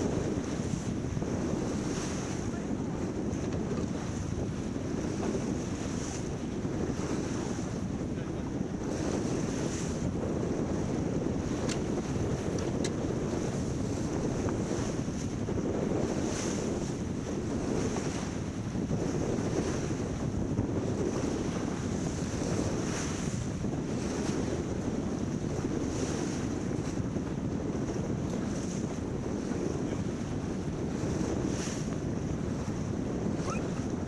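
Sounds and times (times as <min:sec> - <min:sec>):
water splashing along a hull: 0:00.0 - 0:34.0
wind buffeting microphone: 0:00.0 - 0:34.0.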